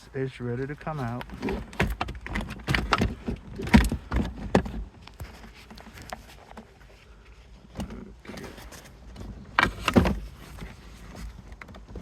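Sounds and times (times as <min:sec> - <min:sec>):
light clicks and handling noise: 0:00.6 - 0:12.0.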